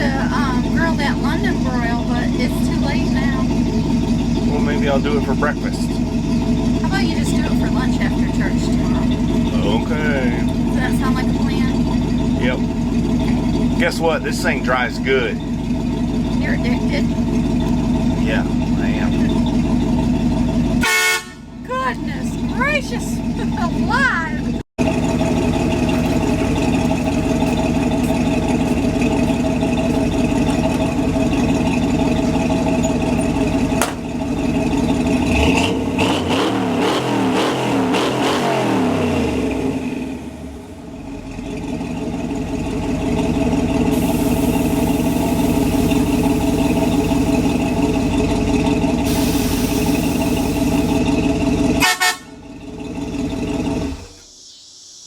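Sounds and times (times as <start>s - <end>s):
truck engine running: 0.0s - 54.5s.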